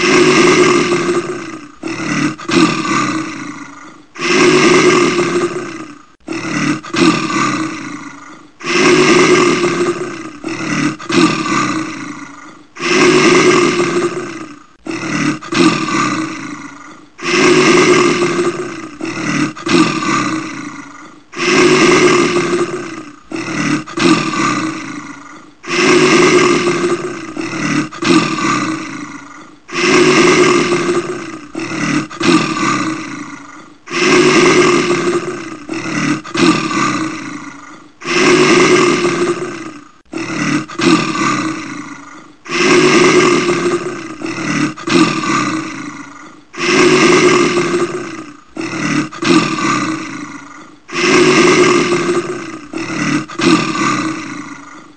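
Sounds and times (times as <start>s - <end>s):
bear roaring: 0.0s - 54.9s.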